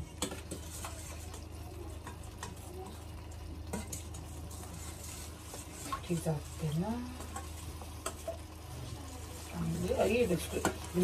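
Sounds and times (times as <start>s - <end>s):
utensil clicking and scraping in pot: 0.0s - 8.6s, 9.4s - 11.0s.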